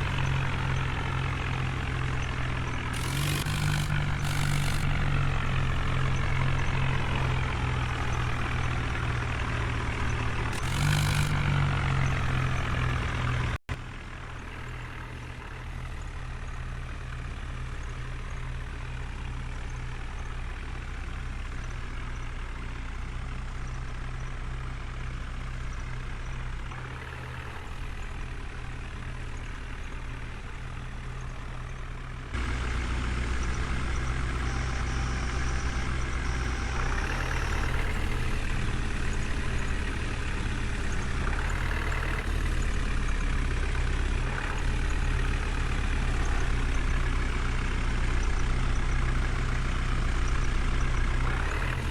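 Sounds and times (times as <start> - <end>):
diesel machinery engines droning: 0.0 - 51.9.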